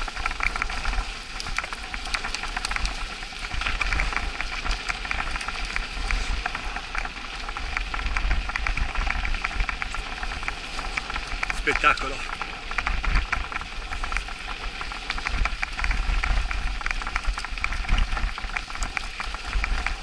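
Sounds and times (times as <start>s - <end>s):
bike tyres crunching snow: 0.0s - 20.0s
wind on microphone: 0.0s - 20.0s.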